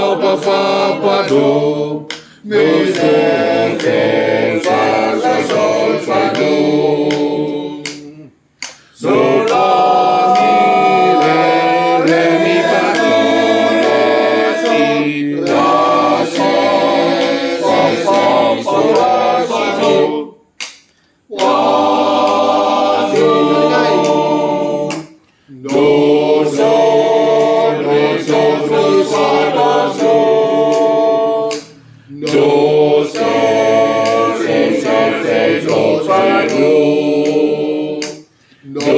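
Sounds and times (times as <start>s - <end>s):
men's choir singing: 0.0s - 20.6s, 21.2s - 38.9s.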